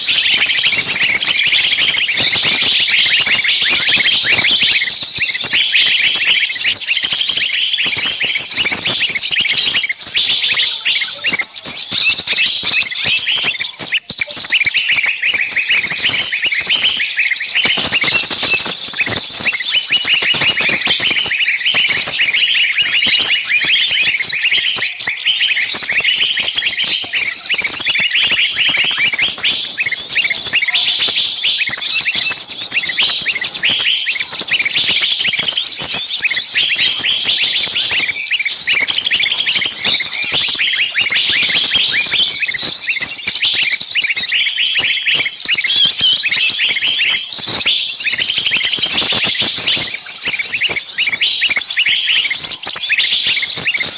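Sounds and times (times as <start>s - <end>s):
songbirds chirping and shrieking: 0.0s - 53.9s.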